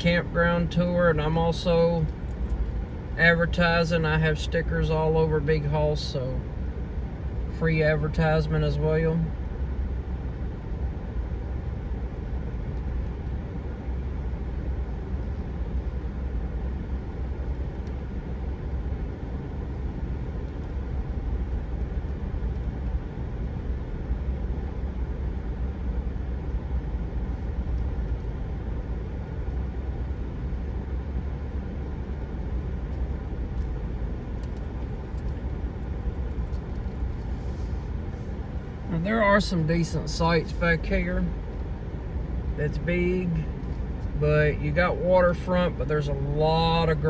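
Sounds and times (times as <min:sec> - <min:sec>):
vehicle engine and tyres rumbling: 0:00.0 - 0:47.0.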